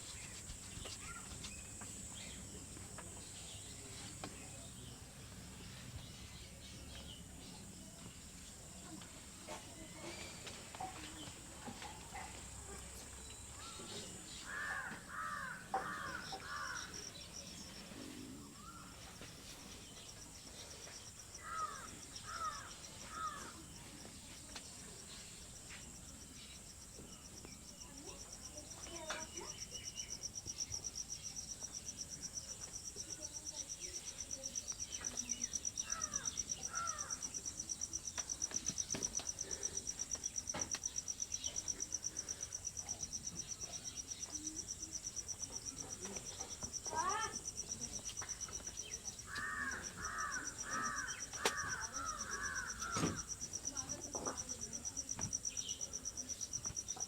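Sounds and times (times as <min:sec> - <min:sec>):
high insect trill: 0:08.8 - 0:57.0.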